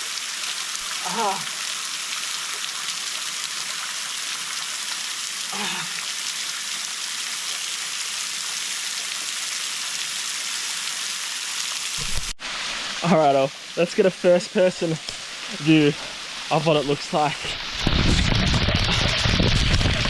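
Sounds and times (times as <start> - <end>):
waterfall pouring: 0.0 - 20.0.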